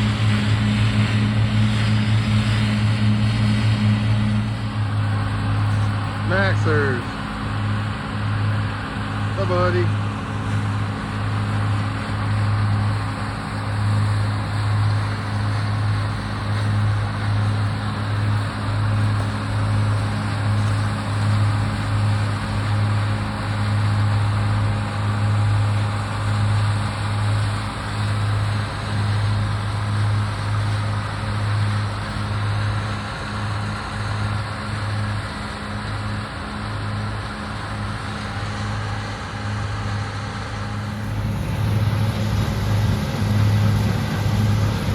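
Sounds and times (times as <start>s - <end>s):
combine harvester engine hum: 0.0s - 44.9s.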